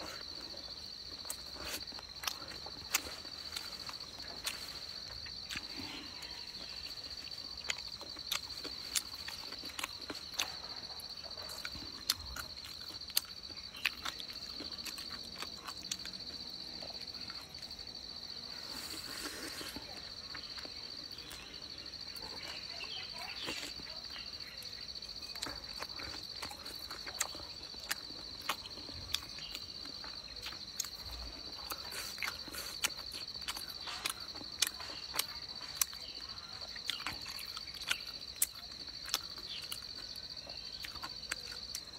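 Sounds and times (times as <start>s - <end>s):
insects trilling: 0.0s - 41.9s
wet chewing and lip-smacking: 0.0s - 41.9s.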